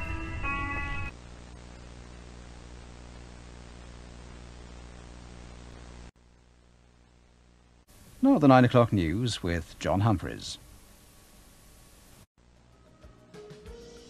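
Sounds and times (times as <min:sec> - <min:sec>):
electrical hum: 0:00.0 - 0:12.7
static hiss: 0:00.7 - 0:12.6.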